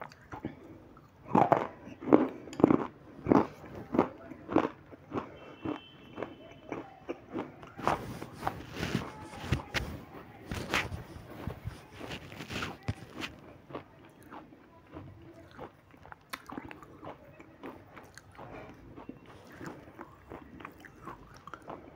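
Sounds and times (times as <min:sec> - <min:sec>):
wet chewing and mouth smacks: 0:00.0 - 0:21.9.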